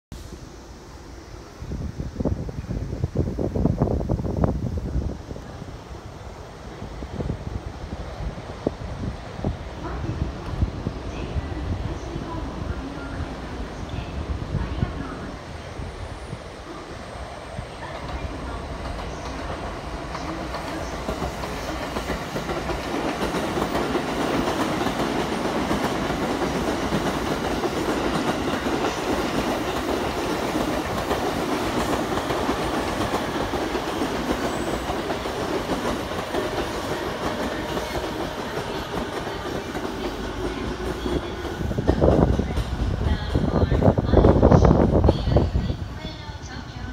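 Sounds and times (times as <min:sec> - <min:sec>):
train wheels on rails: 0:02.2 - 0:46.9.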